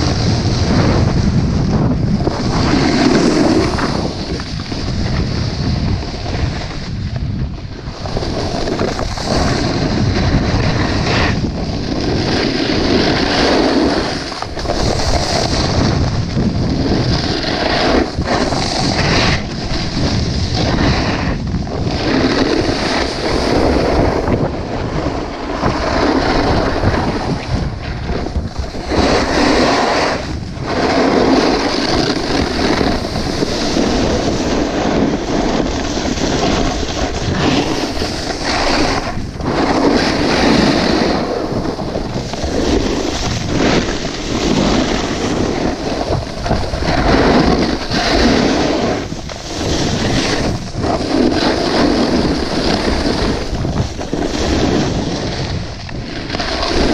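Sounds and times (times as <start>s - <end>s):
snowboard edges scraping snow: 0.0s - 56.9s
wind buffeting microphone: 0.0s - 56.9s.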